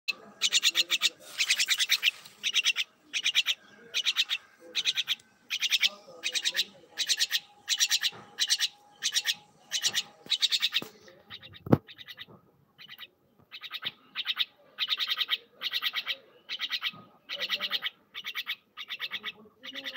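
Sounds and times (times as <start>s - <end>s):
myna chattering calls: 0.1s - 19.9s.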